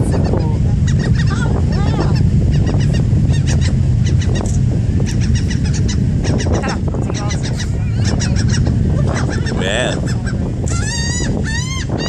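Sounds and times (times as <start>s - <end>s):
deep rumble: 0.0s - 12.0s
gulls calling: 0.0s - 12.0s.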